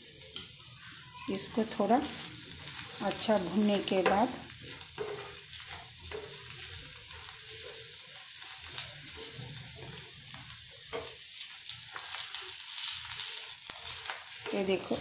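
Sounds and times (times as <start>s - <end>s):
spices sizzling in hot oil: 0.0s - 15.0s
wooden spatula stirring: 1.3s - 15.0s.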